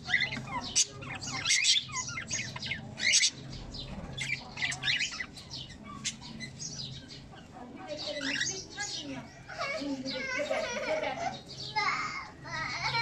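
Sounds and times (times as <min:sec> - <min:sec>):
cockatiels chirping and squawking: 0:00.0 - 0:13.0.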